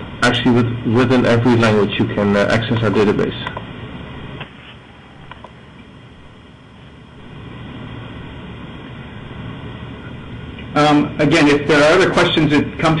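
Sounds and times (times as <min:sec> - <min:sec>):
audio line hiss and hum: 0:00.0 - 0:13.0.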